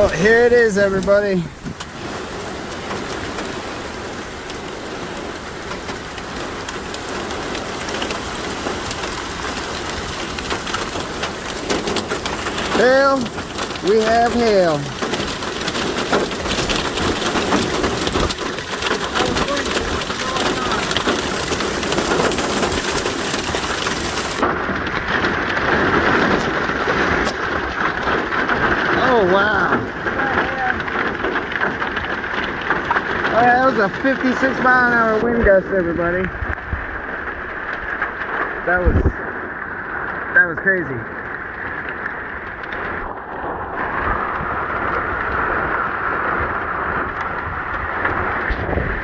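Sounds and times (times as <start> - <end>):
wind buffeting microphone: 0.0 - 40.4, 41.0 - 49.0
hail ticking: 0.0 - 49.0
heavy rain hiss: 0.0 - 49.0.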